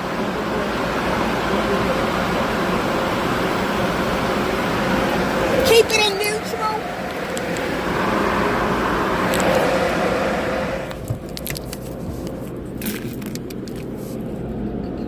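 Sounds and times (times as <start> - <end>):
car wash rushing noise: 0.0 - 14.5
low engine hum: 0.0 - 15.0.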